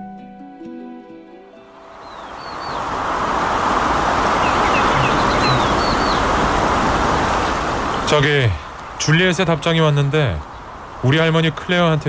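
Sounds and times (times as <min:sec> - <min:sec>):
traffic hum: 0:01.8 - 0:12.0
small birds chirping: 0:01.9 - 0:12.0.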